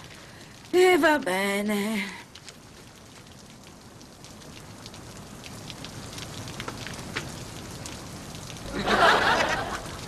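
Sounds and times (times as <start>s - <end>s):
drips ticking on hard surfaces: 0.0s - 8.7s
steady rain falling: 0.0s - 10.0s.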